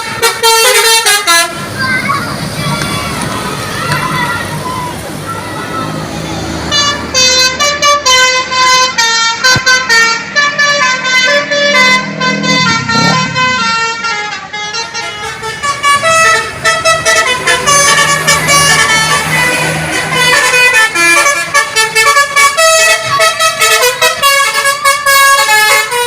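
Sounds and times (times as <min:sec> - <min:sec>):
musical bus air horn: 0:00.0 - 0:01.8, 0:06.7 - 0:26.0.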